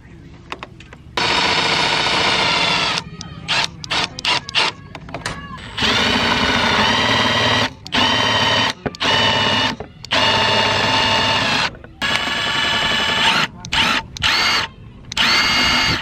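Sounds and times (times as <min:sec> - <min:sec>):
cordless drill whining: 0:01.2 - 0:04.8, 0:05.6 - 0:16.0.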